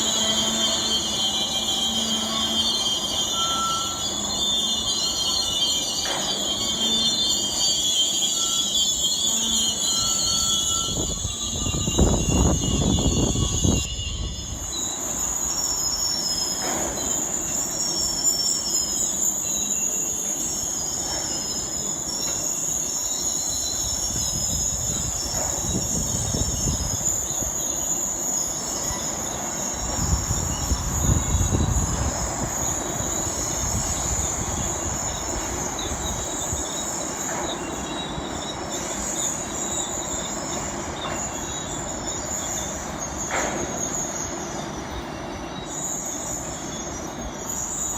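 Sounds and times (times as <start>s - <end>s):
high-pitched metal screeching: 0.0s - 47.9s
low rumbling of train: 0.0s - 47.9s.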